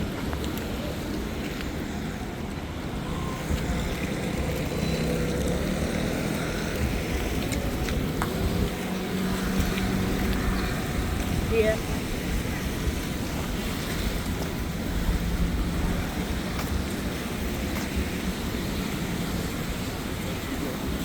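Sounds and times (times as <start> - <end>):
traffic on wet road: 0.0 - 21.0
wind noise on microphone: 0.0 - 21.0.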